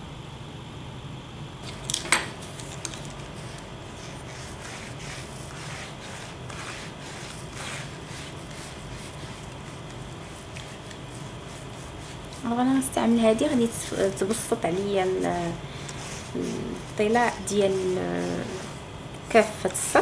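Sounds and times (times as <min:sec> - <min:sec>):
paint roller swishing: 0:01.6 - 0:20.0.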